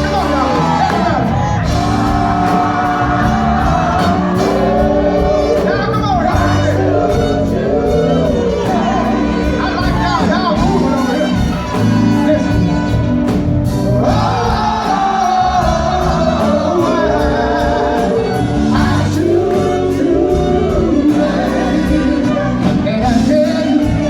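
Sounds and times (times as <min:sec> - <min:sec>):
drum beat: 0:00.0 - 0:24.0
live soul band: 0:00.0 - 0:24.0.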